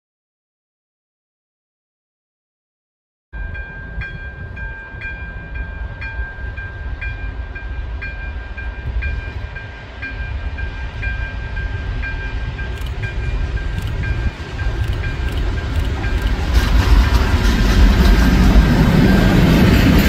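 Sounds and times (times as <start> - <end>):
diesel locomotive engine rumbling: 3.4 - 20.0.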